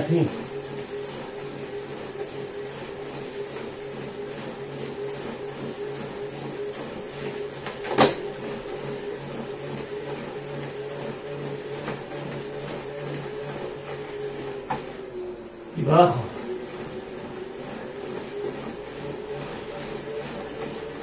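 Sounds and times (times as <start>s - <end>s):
bike trainer electric hum: 0.0s - 21.0s.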